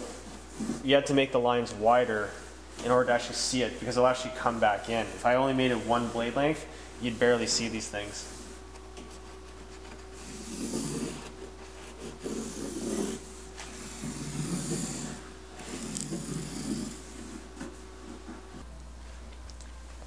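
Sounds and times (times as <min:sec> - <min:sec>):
tool rubbing carpet: 0:00.0 - 0:01.4, 0:02.8 - 0:18.6.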